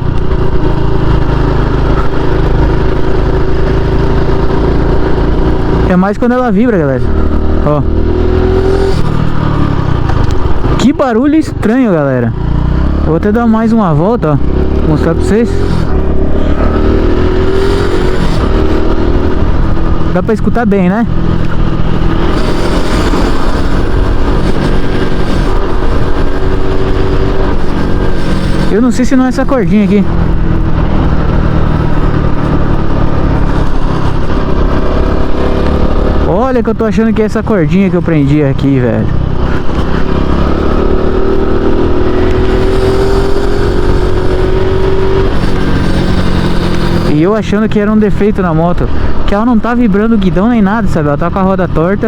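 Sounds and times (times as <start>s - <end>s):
motorcycle engine running: 0.0s - 52.0s
road noise: 0.0s - 52.0s.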